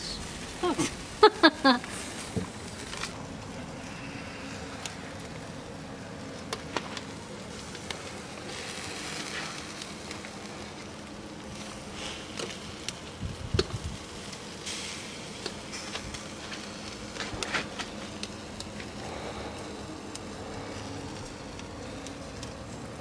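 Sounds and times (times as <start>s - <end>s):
meat sizzling on grill: 0.0s - 23.0s.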